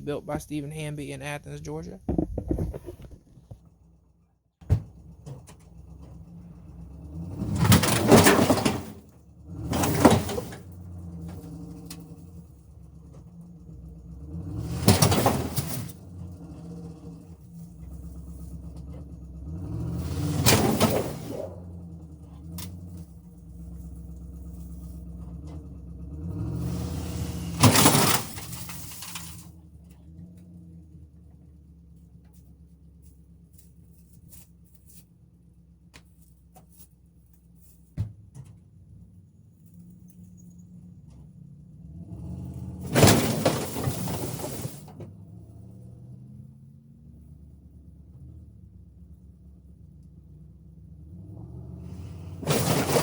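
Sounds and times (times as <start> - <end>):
car engine running: 0.0 - 53.0.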